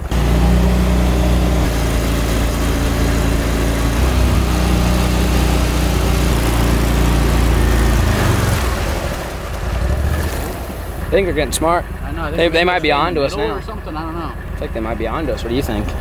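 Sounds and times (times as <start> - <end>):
boat engine running hard: 0.0 - 16.0.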